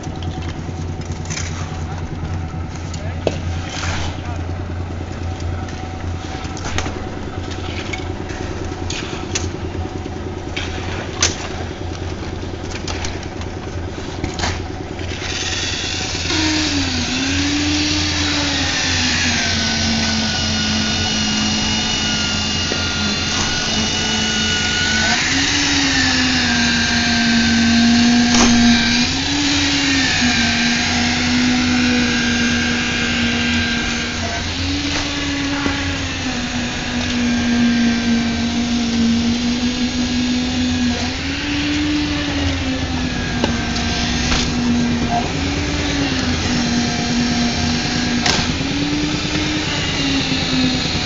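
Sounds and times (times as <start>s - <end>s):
concrete vibrator motor whine: 0.0s - 51.0s
low steady hum: 0.0s - 51.0s.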